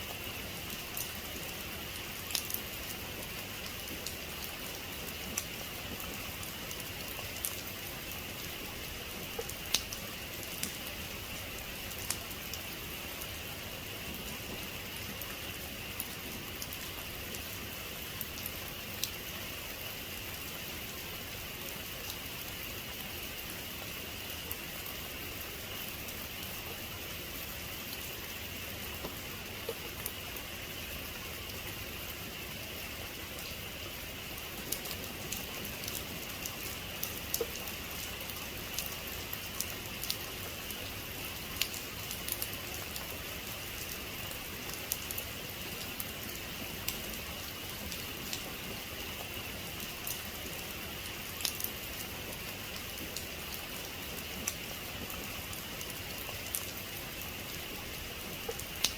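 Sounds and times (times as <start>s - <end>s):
rain hiss: 0.0s - 58.9s.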